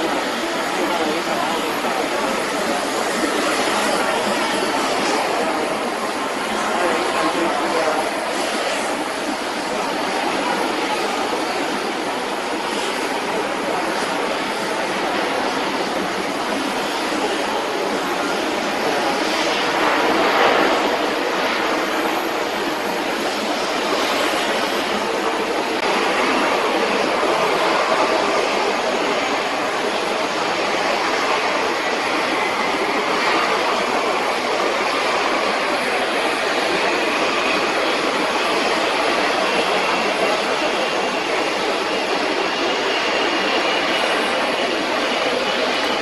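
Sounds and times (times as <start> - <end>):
jet engines rushing: 0.0 - 46.0.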